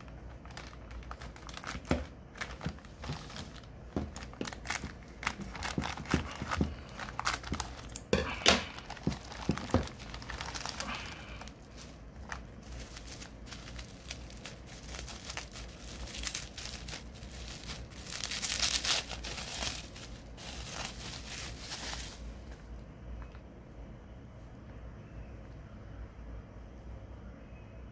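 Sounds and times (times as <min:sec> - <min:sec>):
plastic bag crinkling: 0:00.0 - 0:22.8.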